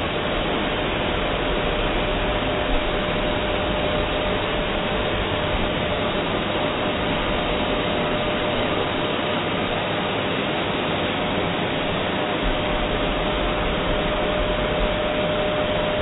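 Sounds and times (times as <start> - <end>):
blow dryer running: 0.0 - 16.0.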